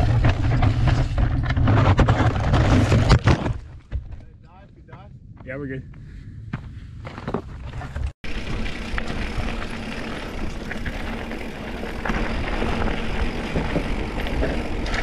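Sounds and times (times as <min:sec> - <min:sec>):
bike rattles and clicks: 0:00.0 - 0:04.2, 0:07.0 - 0:15.0
tyres rolling on gravel: 0:00.0 - 0:04.2, 0:07.0 - 0:15.0.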